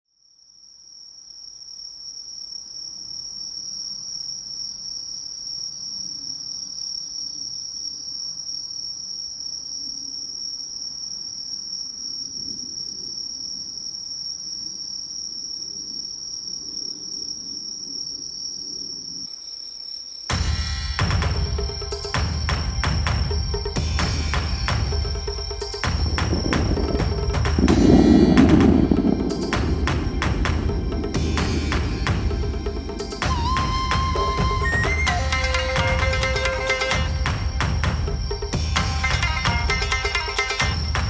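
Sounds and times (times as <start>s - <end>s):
crickets trilling: 0.2s - 41.0s.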